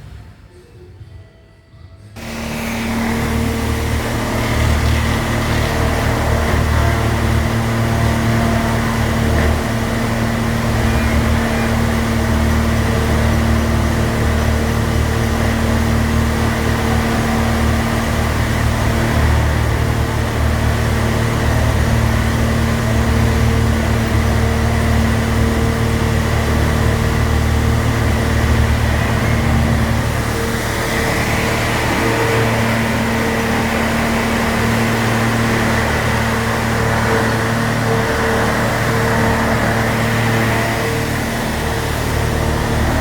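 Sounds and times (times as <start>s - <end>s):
electric motor humming: 2.2s - 43.0s
steady tones: 2.2s - 43.0s.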